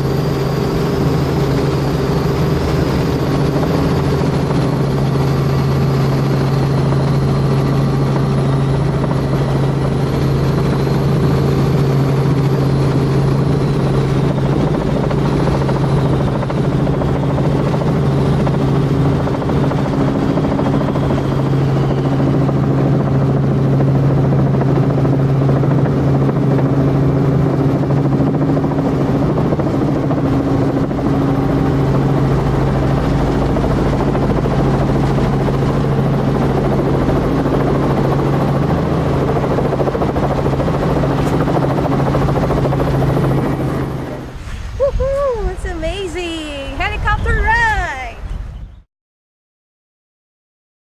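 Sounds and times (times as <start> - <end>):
helicopter rotor and engine drone: 0.0 - 44.5, 45.4 - 48.8.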